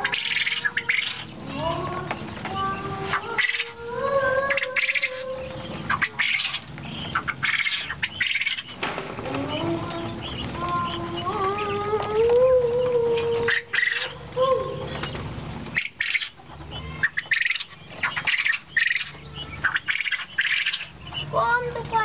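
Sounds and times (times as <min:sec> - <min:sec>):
quail calling: 0:00.0 - 0:22.0.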